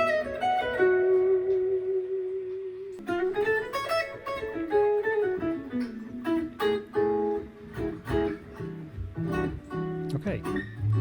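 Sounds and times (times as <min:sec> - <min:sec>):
clean electric guitar: 0:00.0 - 0:11.0.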